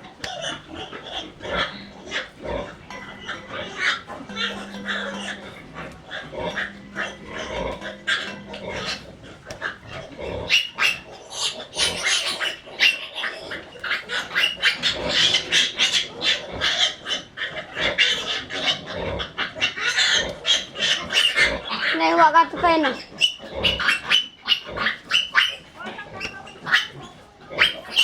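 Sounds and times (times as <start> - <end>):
farm animals calling: 0.0 - 28.0.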